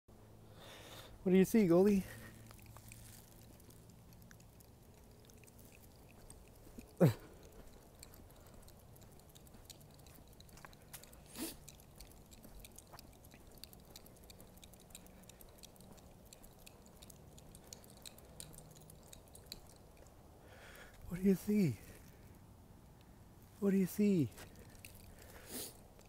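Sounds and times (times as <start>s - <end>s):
faint rapid ticking: 0.8s - 22.4s.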